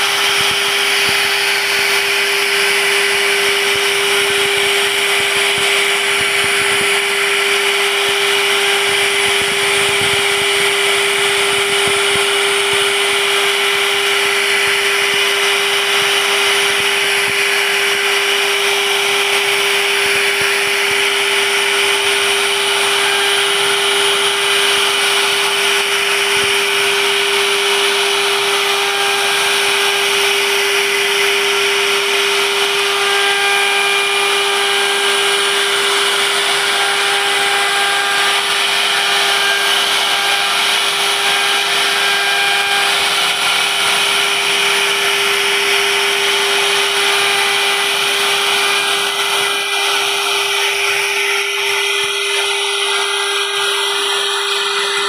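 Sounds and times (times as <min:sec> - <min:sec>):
router bit cutting wood: 0:00.0 - 0:55.0
wood router spindle running: 0:00.0 - 0:55.0.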